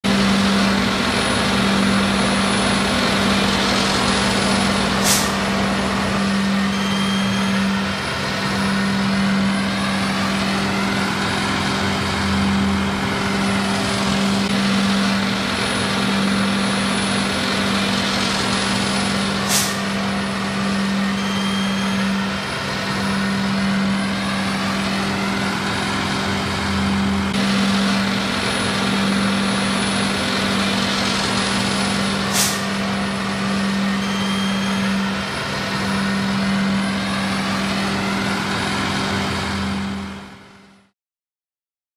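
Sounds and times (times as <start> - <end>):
truck engine and hydraulic pumps: 0.0 - 40.8.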